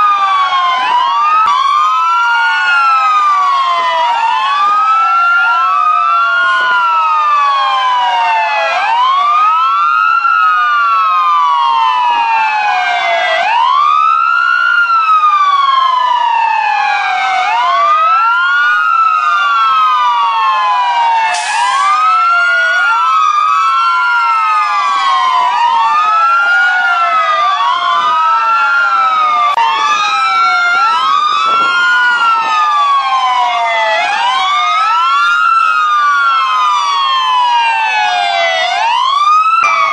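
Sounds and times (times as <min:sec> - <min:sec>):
fire truck sirens wailing: 0:00.0 - 0:39.9.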